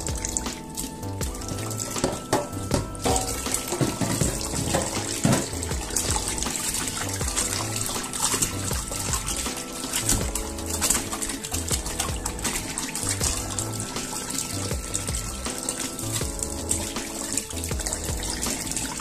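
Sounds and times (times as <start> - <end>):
background music: 0.0 - 19.0
hands rubbing meat under water: 0.0 - 19.0
tap water splashing into steel bowl: 0.0 - 19.0.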